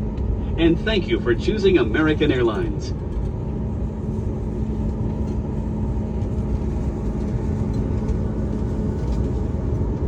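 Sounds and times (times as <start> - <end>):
airliner cabin rumble: 0.0 - 10.0
steady hum: 0.0 - 10.0.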